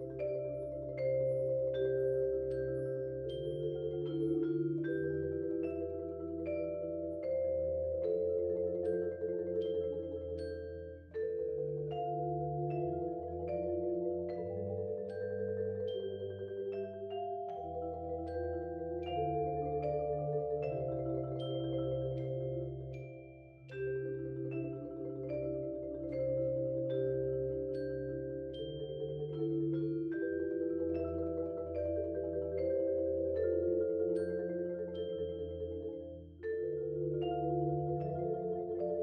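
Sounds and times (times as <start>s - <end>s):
marimbas and vibraphone playing: 0.0s - 39.0s.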